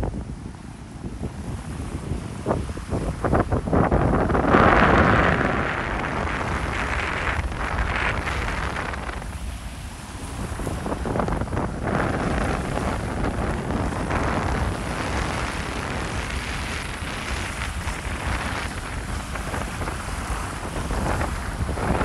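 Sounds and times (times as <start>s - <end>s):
small waves washing onto shore: 0.0s - 22.0s
wind buffeting microphone: 0.0s - 22.0s.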